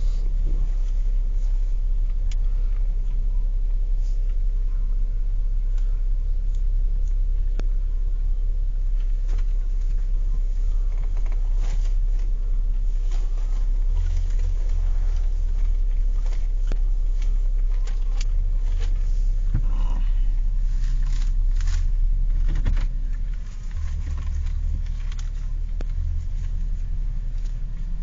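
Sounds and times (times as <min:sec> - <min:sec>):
low vehicle rumble: 0:00.0 - 0:28.0.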